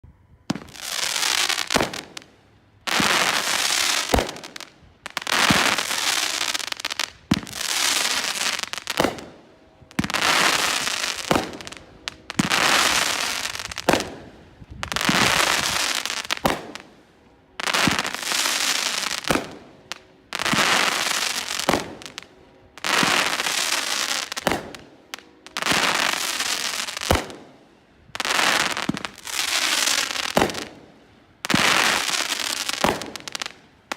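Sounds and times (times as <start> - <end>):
firework crackling: 0.5 - 17.0, 17.6 - 33.9
firework bangs: 2.9 - 16.9, 17.6 - 33.9.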